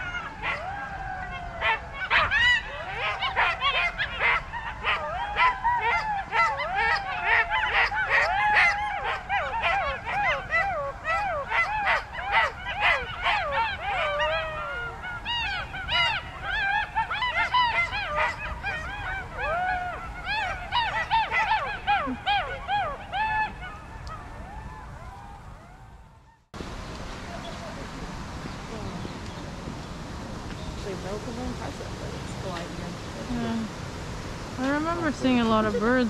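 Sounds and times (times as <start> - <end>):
jackals howling and yipping: 0.0 - 26.3, 28.7 - 36.0.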